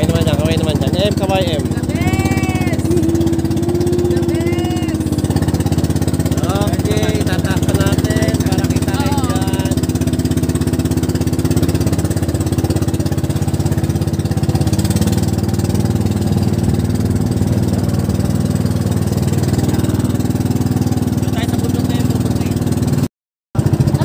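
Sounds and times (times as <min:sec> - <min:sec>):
small engine chugging: 0:00.0 - 0:23.0.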